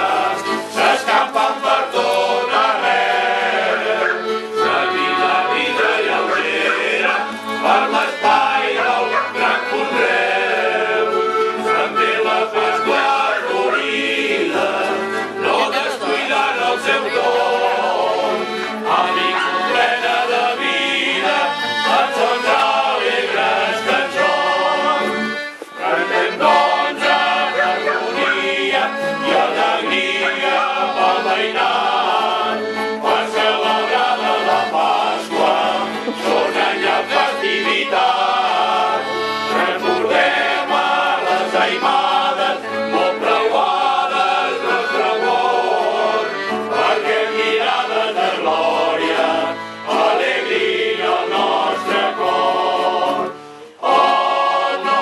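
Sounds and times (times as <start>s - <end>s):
accordion: 0.0s - 55.0s
acoustic guitars: 0.0s - 55.0s
men's choir singing: 0.0s - 55.0s.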